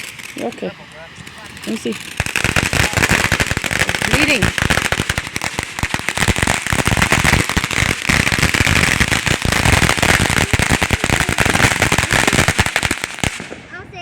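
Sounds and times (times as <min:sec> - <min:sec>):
firecrackers popping: 0:00.0 - 0:14.0.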